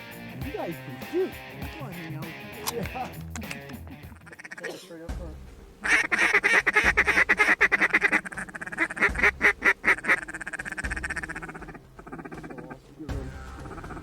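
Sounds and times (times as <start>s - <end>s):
duck quacking: 0.0s - 4.9s, 5.8s - 14.0s.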